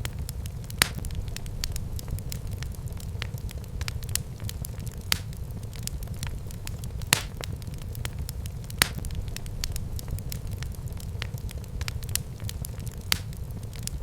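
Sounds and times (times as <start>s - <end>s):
loud fire pops: 0.0s - 14.0s
wood fire crackling: 0.0s - 14.0s.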